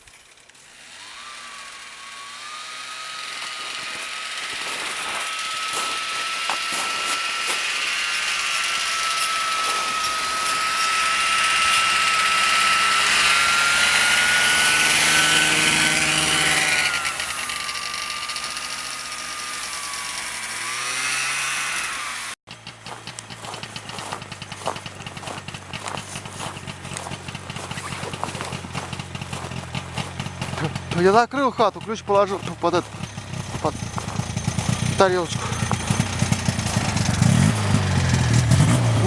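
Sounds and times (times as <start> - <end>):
small engine whining: 0.0 - 39.0.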